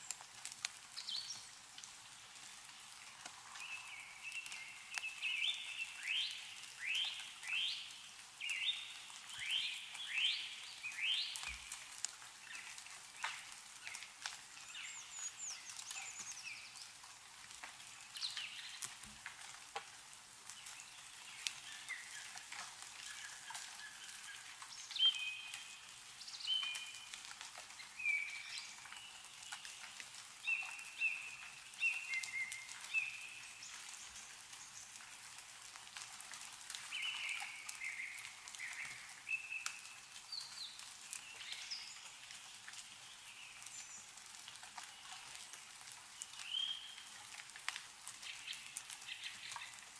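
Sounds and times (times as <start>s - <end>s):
songbirds singing: 0.9s - 17.0s, 17.7s - 19.0s, 20.5s - 35.0s, 36.8s - 47.1s, 48.2s - 49.9s.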